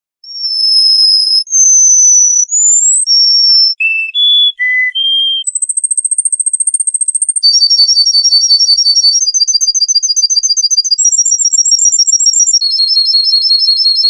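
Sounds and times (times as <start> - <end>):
bird song with whistled notes: 0.2 - 14.0
rapid high bird trill: 0.3 - 14.0.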